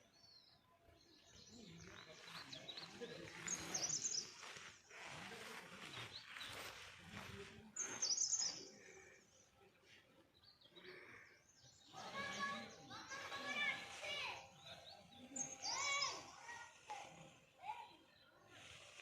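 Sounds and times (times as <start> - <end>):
birds singing warbling chirps: 0.0 - 19.0.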